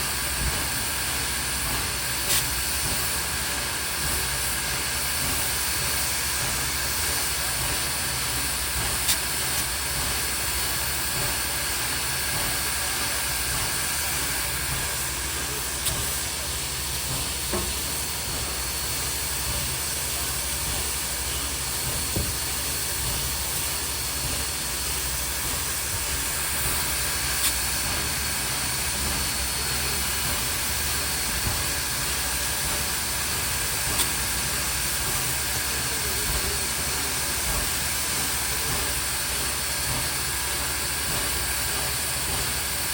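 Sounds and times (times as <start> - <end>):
locomotive hiss: 0.0 - 42.9.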